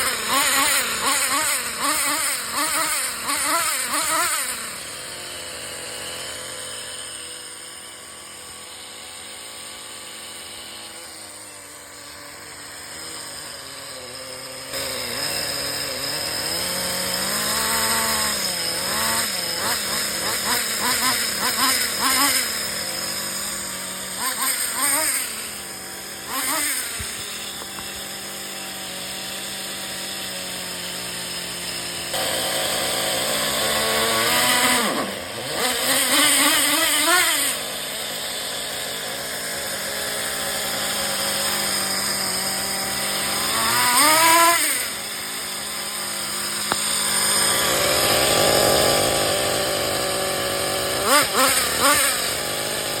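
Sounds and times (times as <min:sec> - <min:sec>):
small nitro engine revving: 0:00.0 - 0:53.0.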